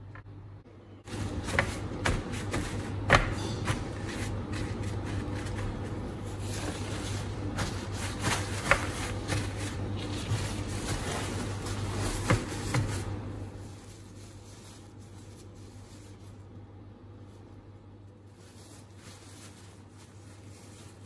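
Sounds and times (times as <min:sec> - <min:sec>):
steady low hum: 0:00.0 - 0:21.0
paper towels rustling: 0:01.1 - 0:21.0.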